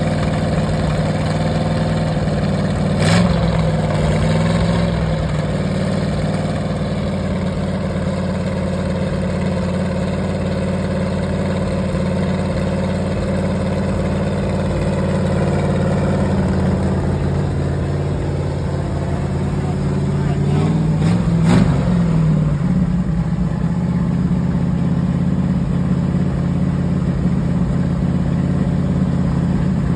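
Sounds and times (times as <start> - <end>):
engine running through open exhaust: 0.0 - 29.9.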